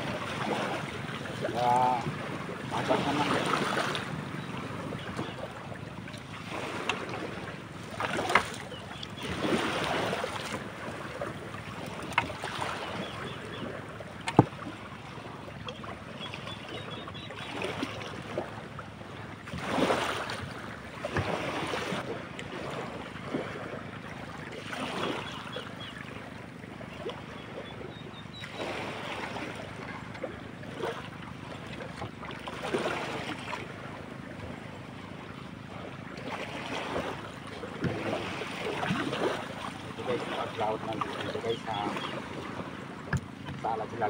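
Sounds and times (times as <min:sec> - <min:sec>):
small waves washing on shore: 0:00.0 - 0:44.0.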